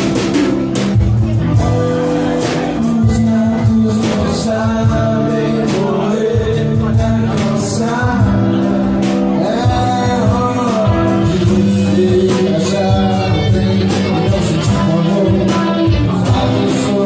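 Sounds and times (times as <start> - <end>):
guitar: 0.0 - 17.0
steady drum beat: 0.0 - 17.0.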